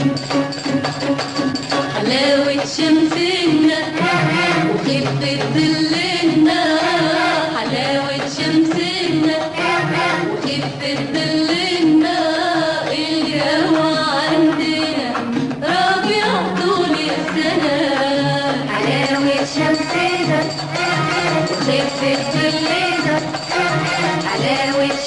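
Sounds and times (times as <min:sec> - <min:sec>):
song with melody and percussion: 0:00.0 - 0:25.0.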